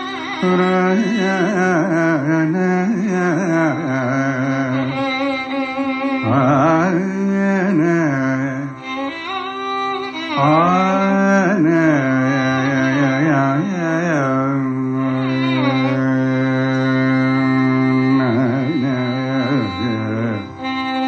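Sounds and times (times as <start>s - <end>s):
man singing ornamented phrases: 0.0s - 9.4s, 10.1s - 21.0s
violin melody: 0.0s - 21.0s.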